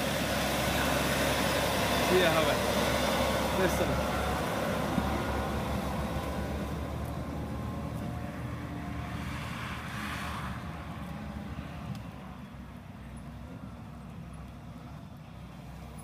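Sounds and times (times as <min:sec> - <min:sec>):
motor vehicle running: 0:00.0 - 0:16.0.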